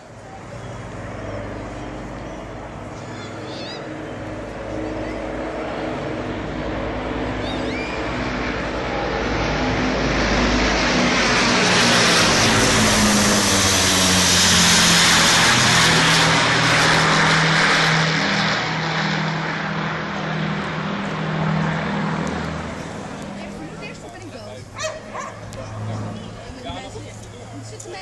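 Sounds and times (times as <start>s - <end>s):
propeller plane engines droning overhead: 0.0s - 28.0s.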